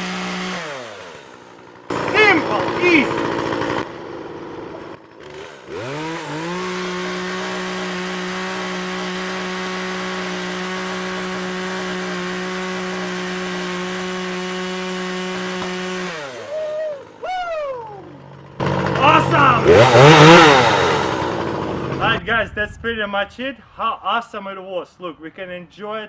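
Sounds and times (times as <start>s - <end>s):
chainsaw engine revving: 0.0s - 22.2s.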